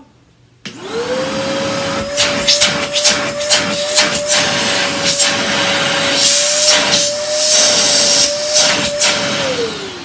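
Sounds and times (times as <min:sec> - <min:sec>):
vacuum cleaner motor whine: 0:00.7 - 0:10.0
rushing air through hoses: 0:01.4 - 0:09.7.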